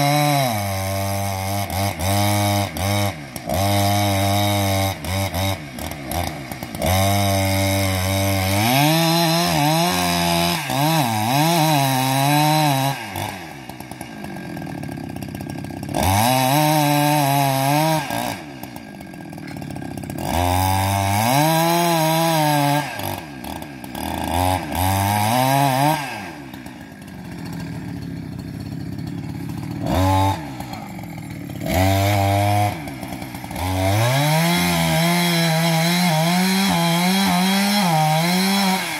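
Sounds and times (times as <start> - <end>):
chainsaw cutting tree trunk: 0.0 - 38.9.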